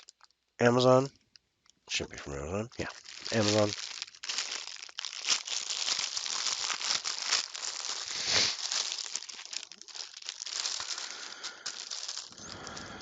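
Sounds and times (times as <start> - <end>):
packaging crinkling: 0.0 - 0.4, 2.7 - 13.0.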